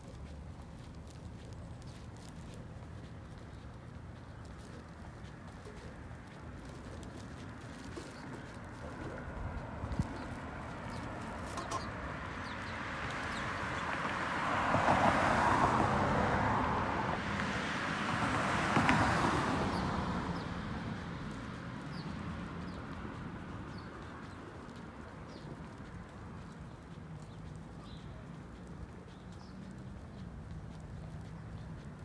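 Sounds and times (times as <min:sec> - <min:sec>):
cars passing on road: 0:00.0 - 0:32.0.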